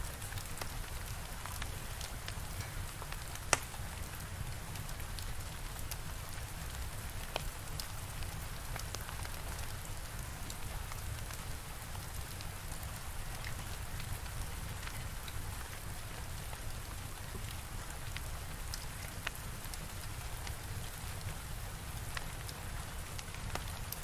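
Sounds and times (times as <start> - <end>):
steady rain: 0.0 - 24.0
fire crackling: 0.1 - 24.0.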